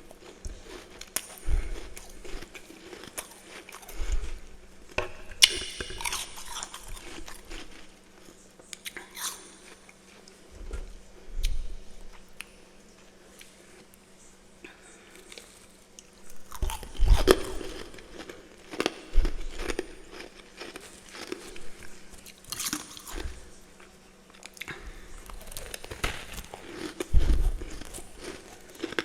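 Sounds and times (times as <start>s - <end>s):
crunchy frost being chewed: 0.0s - 29.0s.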